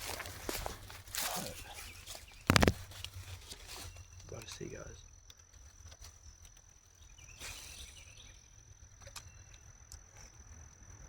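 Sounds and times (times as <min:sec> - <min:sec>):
insect high-pitched trill: 0:00.0 - 0:11.0.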